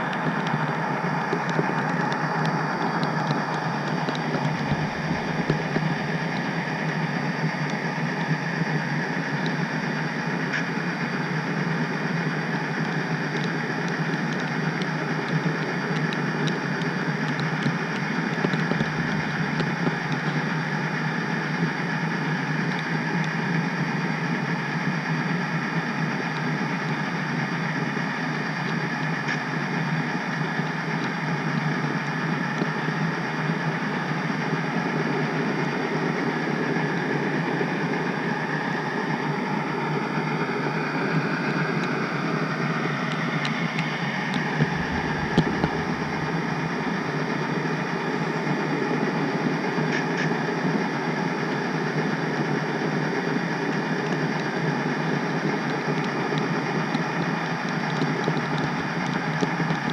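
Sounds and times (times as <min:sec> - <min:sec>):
model train mechanical hum: 0:00.0 - 0:59.9.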